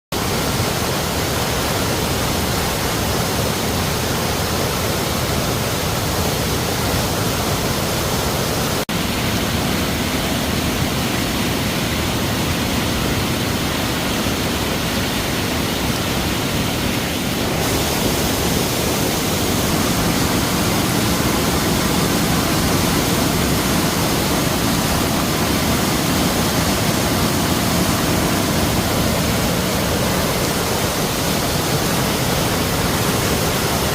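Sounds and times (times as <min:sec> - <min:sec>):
floodwater rushing: 0:00.2 - 0:33.9.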